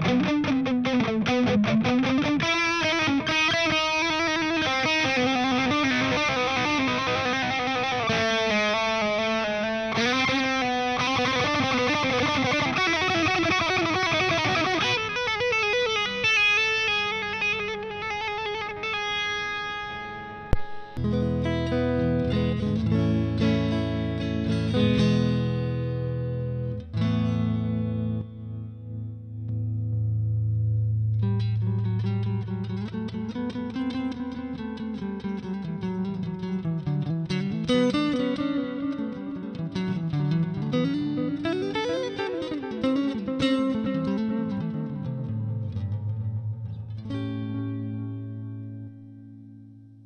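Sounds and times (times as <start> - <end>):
electric guitar notes and chord: 0.0 - 50.0.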